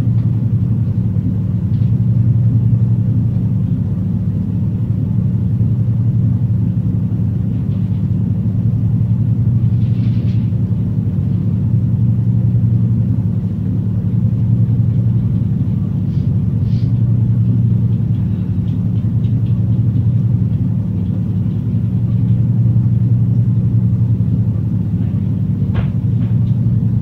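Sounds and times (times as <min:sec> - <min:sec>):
electrical appliance humming: 0:00.0 - 0:27.0.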